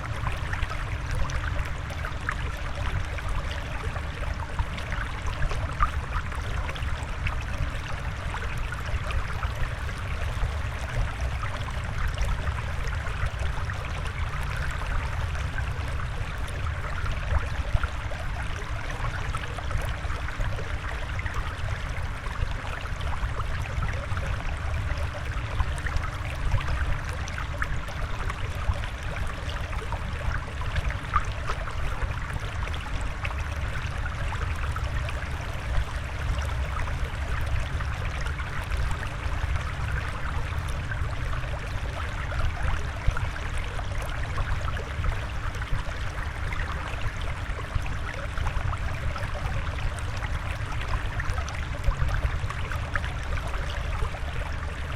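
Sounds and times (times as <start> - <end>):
trickling water: 0.0 - 54.9.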